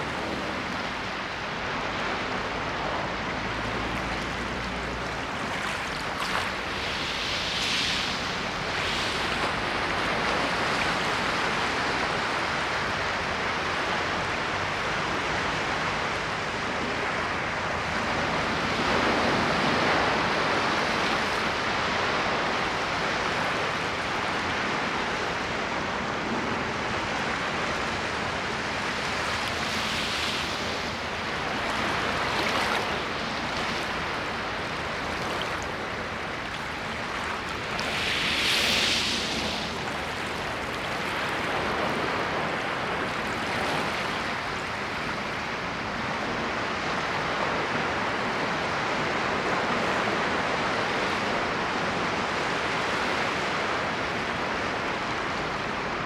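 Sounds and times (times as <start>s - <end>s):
ocean waves washing on shore: 0.0s - 56.0s.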